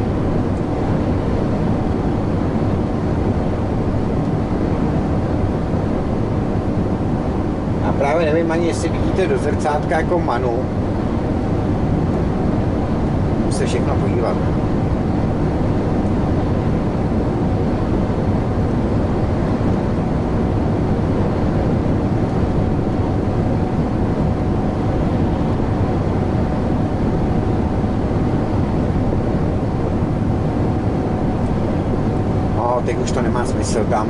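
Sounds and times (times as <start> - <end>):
thin steady whine: 0.0 - 34.0.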